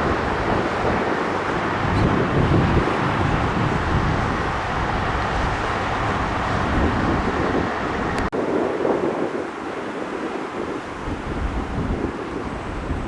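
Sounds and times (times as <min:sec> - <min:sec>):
jet engine roar: 0:00.0 - 0:13.0
wind buffeting microphone: 0:00.0 - 0:13.0.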